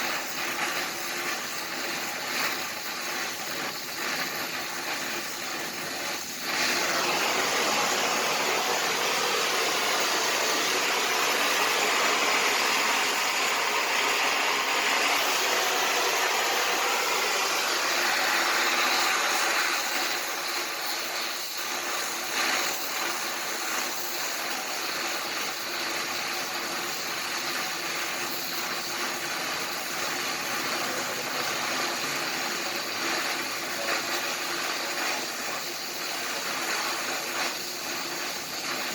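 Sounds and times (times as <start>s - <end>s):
welding arc crackling hiss: 0.0s - 38.9s.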